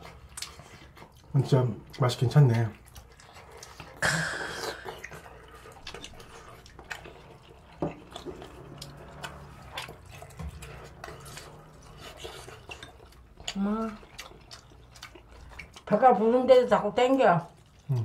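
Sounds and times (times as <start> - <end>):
wet chewing: 0.0 - 18.0.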